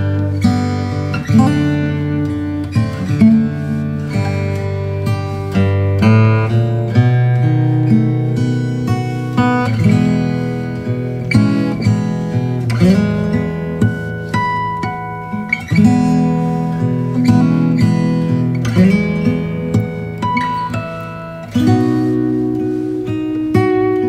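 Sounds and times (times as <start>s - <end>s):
plucked and strummed string chords: 0.0s - 24.0s.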